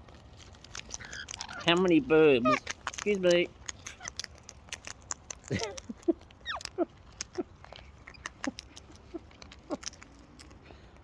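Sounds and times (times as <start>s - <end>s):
claws and beaks clicking: 0.0s - 11.0s.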